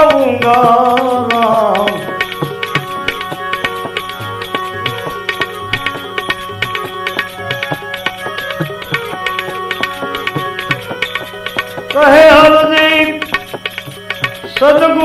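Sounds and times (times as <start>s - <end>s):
hand drum rhythm: 0.0s - 15.0s
sustained melodic notes: 0.0s - 15.0s.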